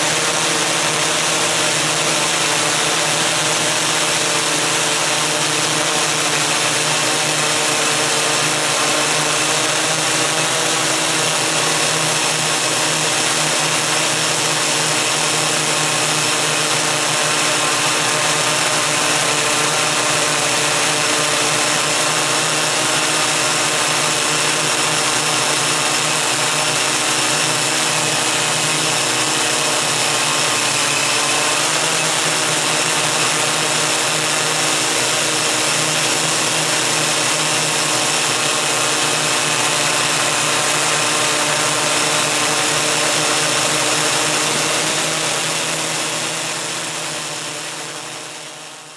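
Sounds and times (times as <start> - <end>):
drone propellers humming: 0.0 - 48.9.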